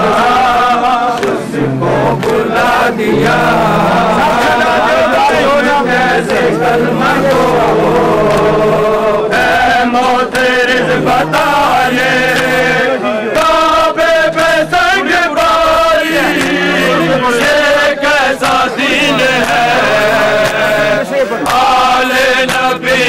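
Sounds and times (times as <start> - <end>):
men chanting: 0.0 - 23.0.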